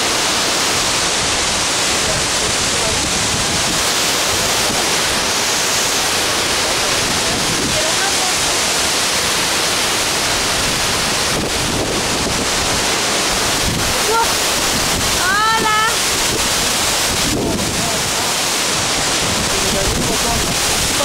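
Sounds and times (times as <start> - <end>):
waterfall rushing onto rocks: 0.0 - 21.0.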